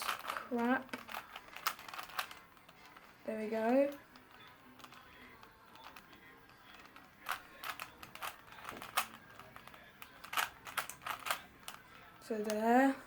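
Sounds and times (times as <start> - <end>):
plastic puzzle cube clicks: 0.0 - 3.0, 3.9 - 11.9.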